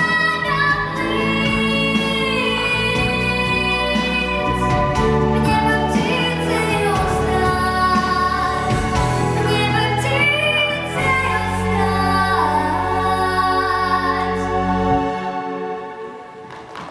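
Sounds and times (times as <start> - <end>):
girl singing into microphone: 0.0 - 14.5
instrumental accompaniment: 0.0 - 16.9.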